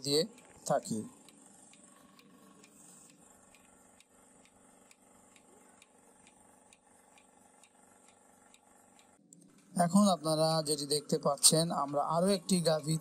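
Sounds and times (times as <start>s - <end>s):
milking machine pulsator clicking: 0.0s - 13.0s
vacuum pump humming: 0.0s - 13.0s.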